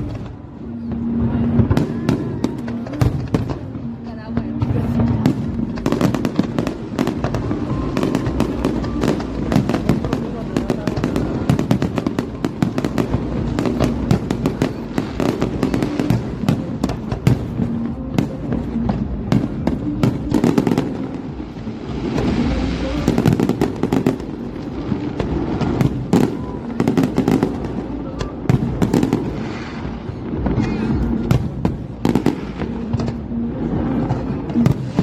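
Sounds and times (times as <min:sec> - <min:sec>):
fireworks bursts and crackling bangs: 0:00.0 - 0:35.0.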